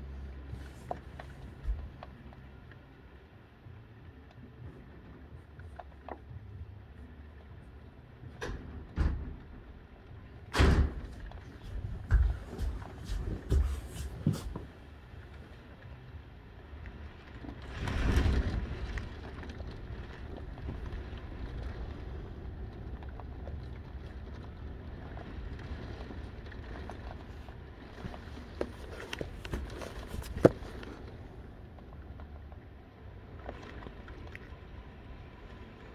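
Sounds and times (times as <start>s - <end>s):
heavy rain through window: 0.0s - 35.9s.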